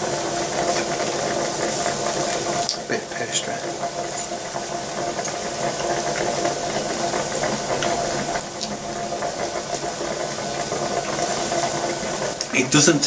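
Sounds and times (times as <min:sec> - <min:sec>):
pot of water boiling: 0:00.0 - 0:13.0.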